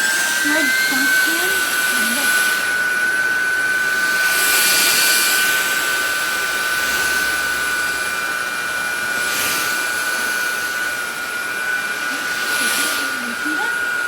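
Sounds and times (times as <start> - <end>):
air rushing through nozzle: 0.0 - 14.0
vacuum motor whine: 0.0 - 14.0.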